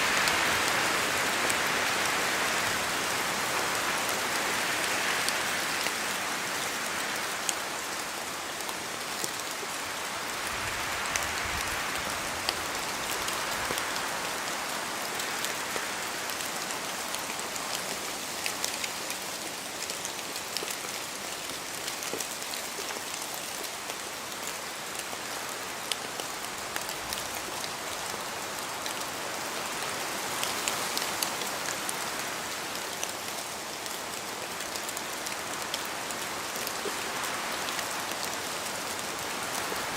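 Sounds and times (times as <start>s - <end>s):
steady rain: 0.0s - 39.9s
wind in branches: 0.0s - 39.9s.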